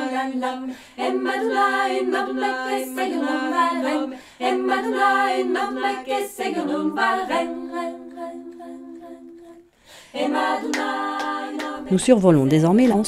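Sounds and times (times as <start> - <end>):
a cappella choir singing: 0.0 - 12.1.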